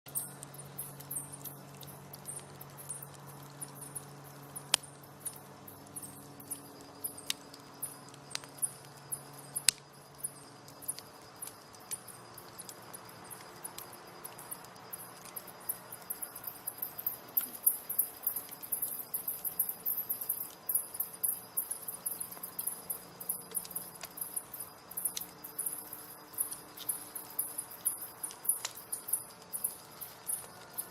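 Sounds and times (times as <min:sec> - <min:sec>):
campfire crackling and popping: 0:00.1 - 0:30.9
crickets chirping: 0:00.1 - 0:30.9.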